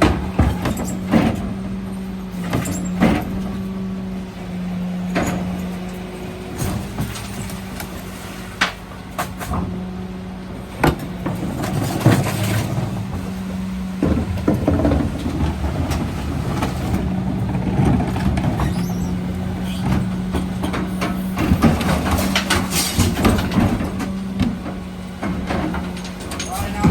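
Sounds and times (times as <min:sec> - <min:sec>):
refuse truck humming: 0:00.0 - 0:26.9.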